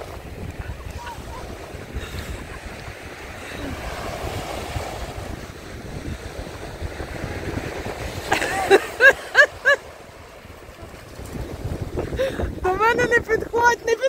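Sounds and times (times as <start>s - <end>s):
waves washing onto sand: 0.0s - 14.0s
wind buffeting microphone: 0.0s - 14.0s.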